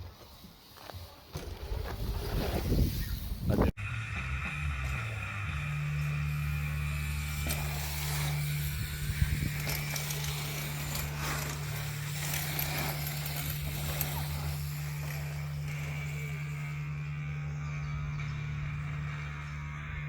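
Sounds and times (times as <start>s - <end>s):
bike tyres on dirt: 0.0s - 20.0s
steady low hum: 1.7s - 20.0s.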